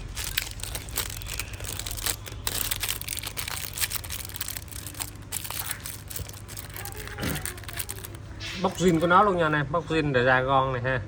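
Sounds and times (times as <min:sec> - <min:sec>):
plastic wrapping crinkling: 0:00.0 - 0:09.6.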